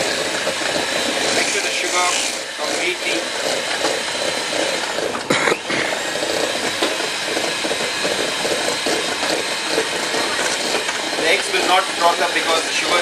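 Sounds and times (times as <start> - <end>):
electric mixer beating in a bowl: 0.0 - 13.0.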